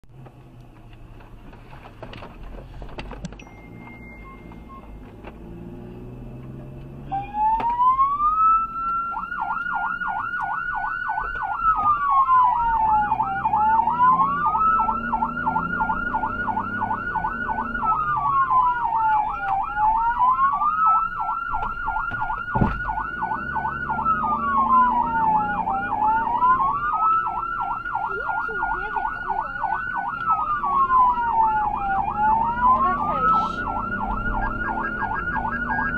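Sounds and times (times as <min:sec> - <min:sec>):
low engine and road noise: 0:00.0 - 0:35.9
emergency vehicle siren: 0:03.7 - 0:35.9.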